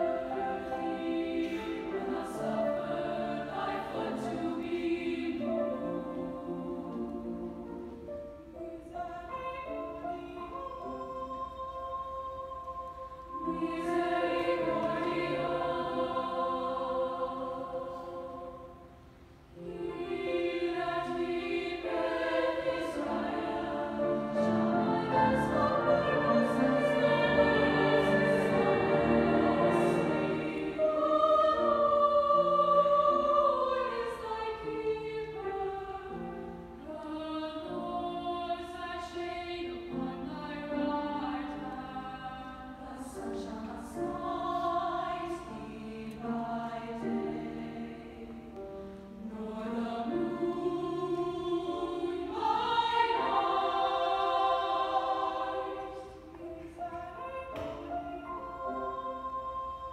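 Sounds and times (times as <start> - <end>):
choir singing sustained chords: 0.0 - 59.9.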